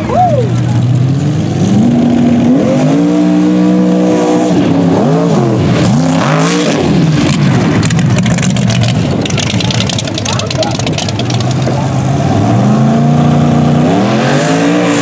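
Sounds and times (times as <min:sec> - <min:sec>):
truck engine at full throttle: 0:00.0 - 0:15.0.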